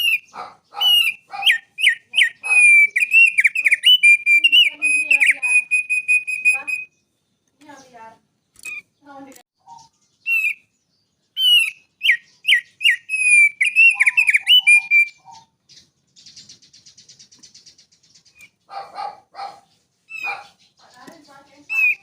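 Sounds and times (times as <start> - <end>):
buzzy bird trill: 0.0 - 22.0
songbird chirping and whistling: 0.0 - 22.0.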